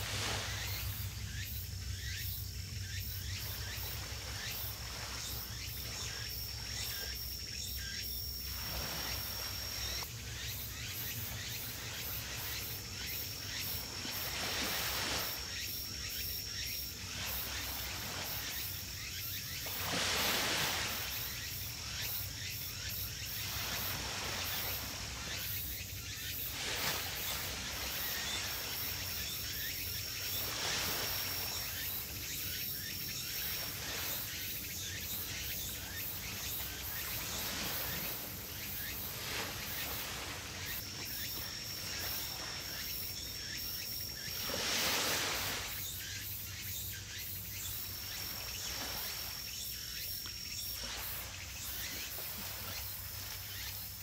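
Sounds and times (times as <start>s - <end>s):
insect trilling: 0.2s - 47.8s.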